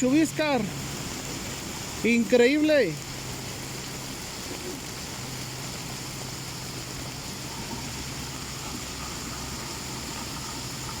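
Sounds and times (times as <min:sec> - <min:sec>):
floodwater rushing: 0:00.0 - 0:11.0
low steady hum: 0:00.0 - 0:11.0
rain: 0:00.0 - 0:11.0.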